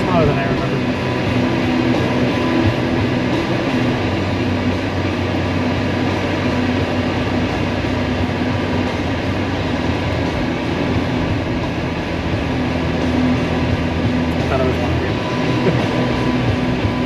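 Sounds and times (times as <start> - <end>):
road and engine noise inside car: 0.0 - 17.0.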